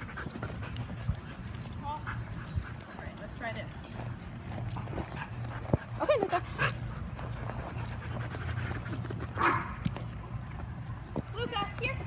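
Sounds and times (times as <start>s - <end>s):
dog panting: 0.0s - 9.8s.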